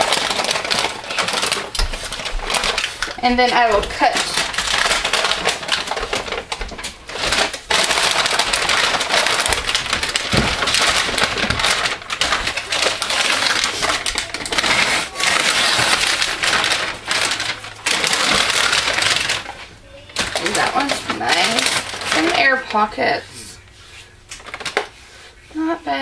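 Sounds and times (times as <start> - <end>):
paper crinkling and rustling: 0.0 - 25.4.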